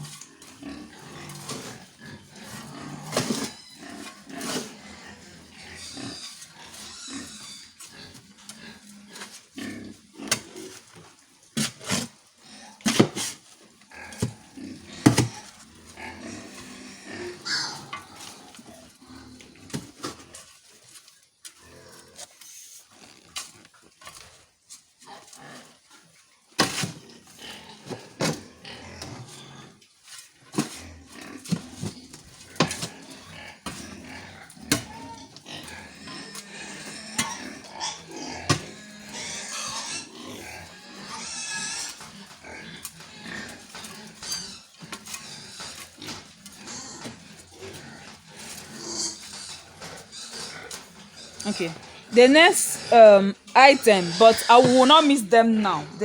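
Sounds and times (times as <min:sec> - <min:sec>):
pigs grunting: 0:00.0 - 0:20.8, 0:21.5 - 0:56.0
knocks and scrapes of feed mixing: 0:00.0 - 0:55.1.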